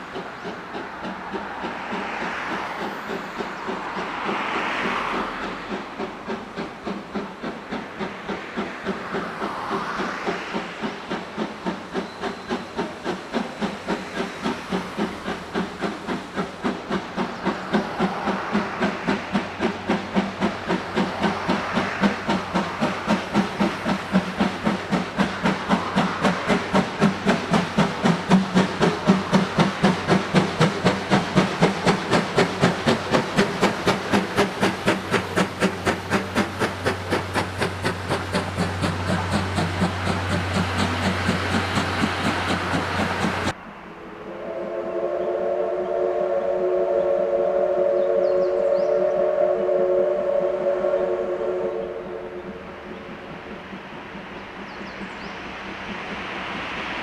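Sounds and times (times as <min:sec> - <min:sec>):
steady steam hiss: 0:00.0 - 0:57.0
steam locomotive chuffing: 0:00.0 - 0:57.0.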